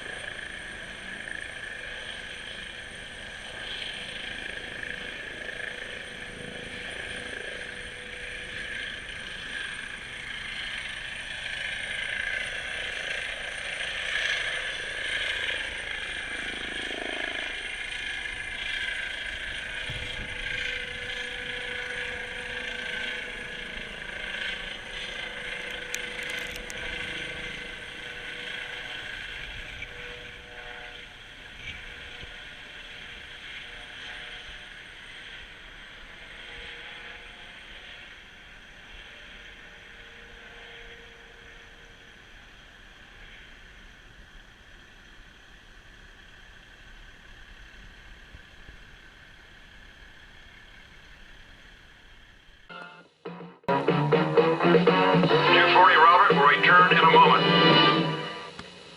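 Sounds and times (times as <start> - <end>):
helicopter turbine and rotors: 0.0 - 53.0, 54.6 - 58.9.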